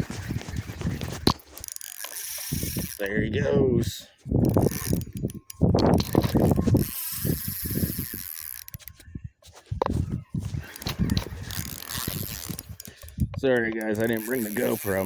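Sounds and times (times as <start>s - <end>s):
wind buffeting microphone: 0.0s - 1.4s, 2.4s - 15.0s
fishing reel drag ticking: 0.2s - 3.2s, 4.3s - 9.0s, 10.3s - 15.0s.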